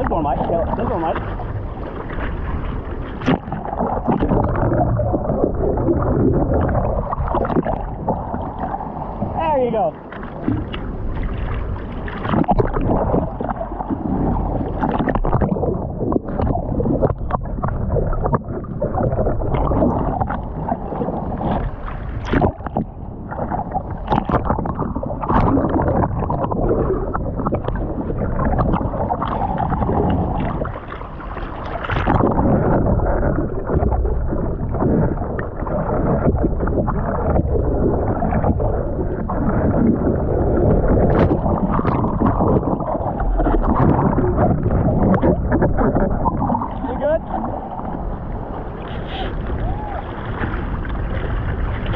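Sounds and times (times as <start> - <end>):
ocean water splashing: 0.0 - 51.9
wind on microphone: 0.0 - 51.9.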